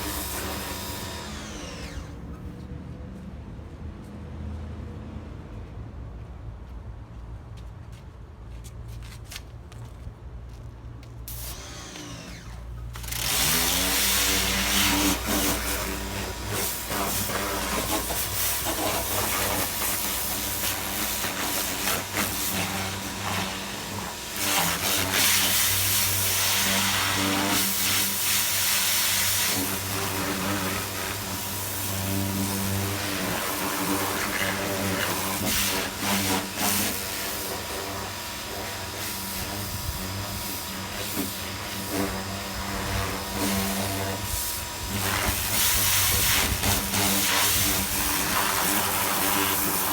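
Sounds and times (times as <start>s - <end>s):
pressure washer pump motor: 0.0s - 2.6s, 11.3s - 49.9s.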